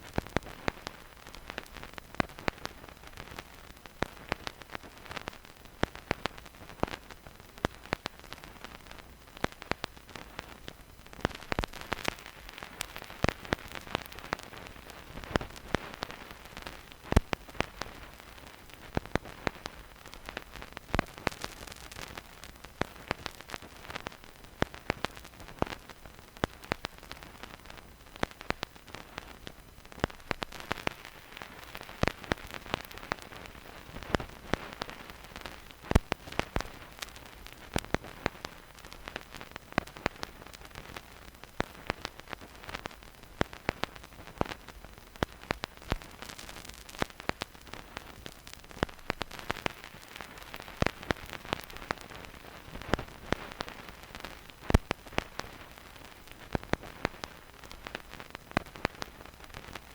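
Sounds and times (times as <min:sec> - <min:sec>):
stylus crackles and pops: 0:00.0 - 0:59.9
vinyl record hiss: 0:00.0 - 0:59.9.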